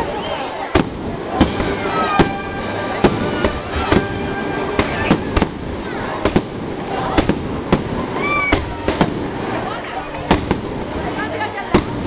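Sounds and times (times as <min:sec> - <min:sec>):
fireworks bangs: 0:00.7 - 0:12.0.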